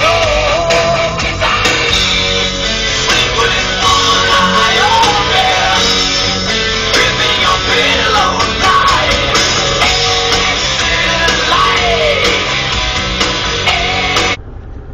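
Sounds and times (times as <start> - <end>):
person singing: 0.0 - 12.7
guitar: 0.0 - 14.4
loud rock music: 0.0 - 14.4.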